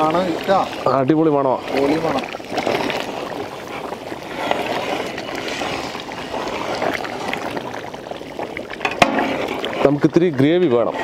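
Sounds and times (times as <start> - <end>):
thick curry bubbling: 0.0 - 11.0.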